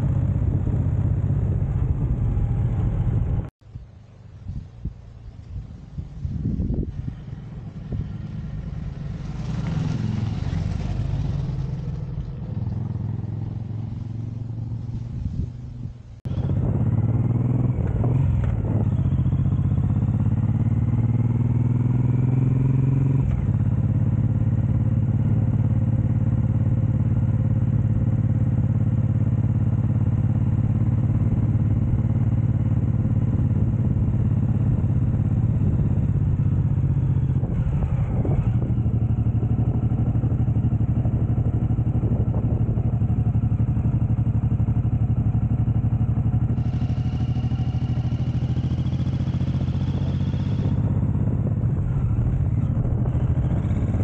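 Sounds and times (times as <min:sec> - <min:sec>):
motorcycle engine: 0:00.0 - 0:03.5, 0:06.2 - 0:54.0.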